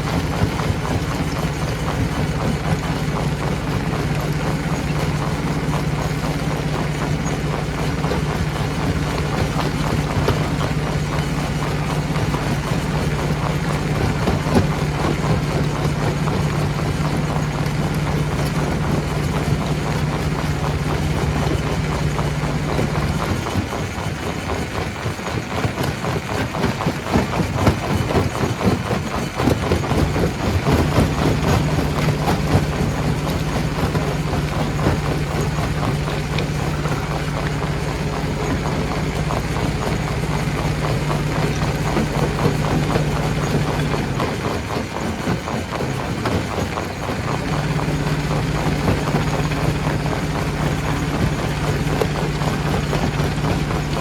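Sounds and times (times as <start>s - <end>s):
rock rattling and knocking: 0.0s - 54.0s
stone crusher low hum: 0.0s - 54.0s.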